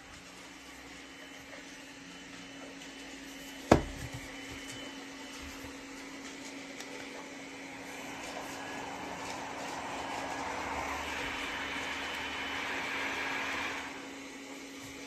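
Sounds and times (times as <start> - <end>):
small motor humming: 0.0 - 15.0.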